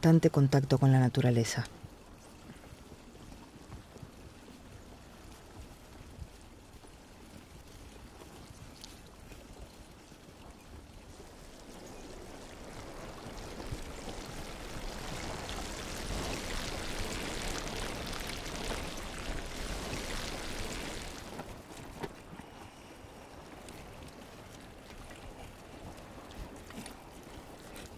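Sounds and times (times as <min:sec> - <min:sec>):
bicycle tyres splashing through water: 0:02.4 - 0:27.9.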